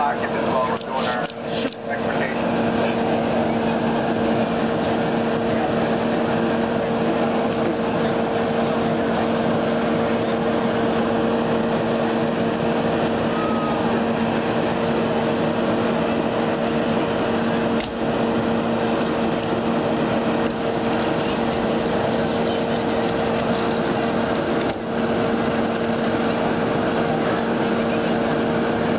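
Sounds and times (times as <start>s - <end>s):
hydraulic power unit engine drone: 0.0s - 28.9s.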